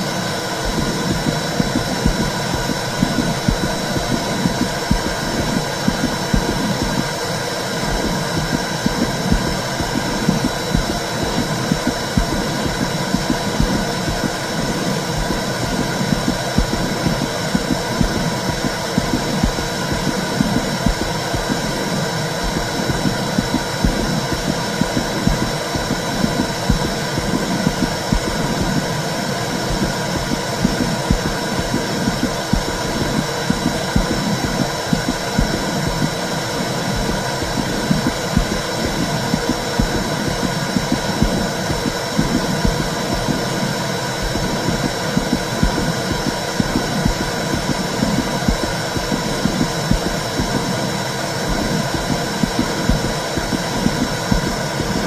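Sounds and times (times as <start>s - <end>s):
pulsing beat: 0.2s - 55.0s.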